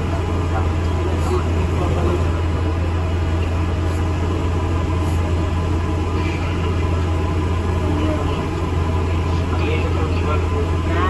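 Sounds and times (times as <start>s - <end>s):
bus interior engine hum: 0.0s - 11.0s.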